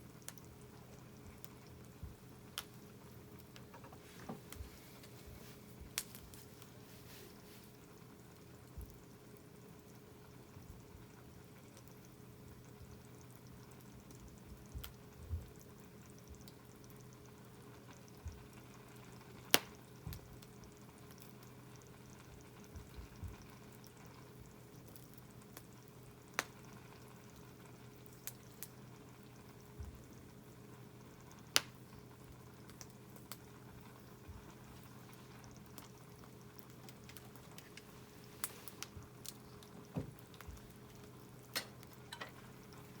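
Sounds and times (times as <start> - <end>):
faint steady hum: 0.0 - 43.0
food simmering and sizzling: 0.0 - 43.0
campfire crackling and popping: 0.2 - 3.7, 5.8 - 6.5, 11.6 - 30.3, 31.2 - 43.0.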